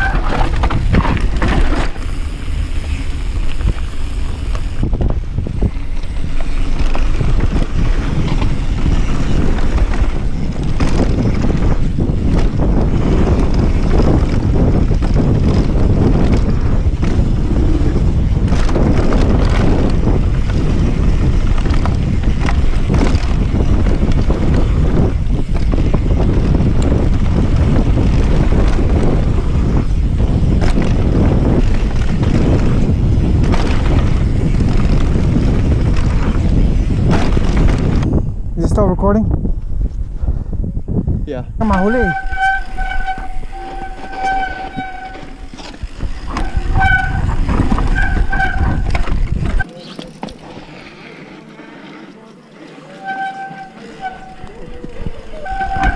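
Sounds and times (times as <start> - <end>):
wind buffeting microphone: 0.0 - 51.5, 53.0 - 55.9
bike tyres rumbling on gravel: 0.0 - 55.9.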